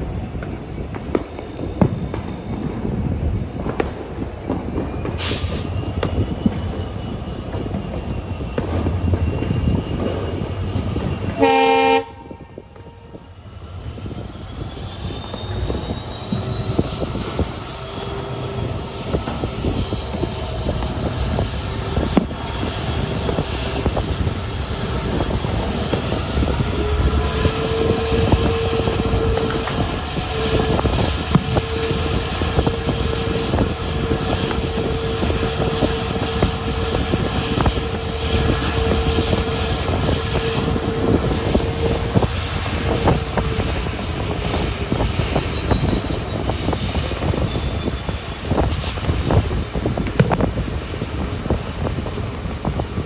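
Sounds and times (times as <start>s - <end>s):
diesel locomotive engine: 0.0s - 53.0s
turbocharger whine: 0.0s - 53.0s.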